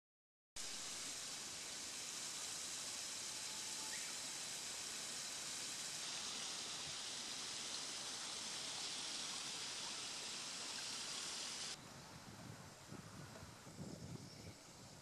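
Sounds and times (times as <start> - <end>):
outdoor ambience hiss: 0.6 - 15.0.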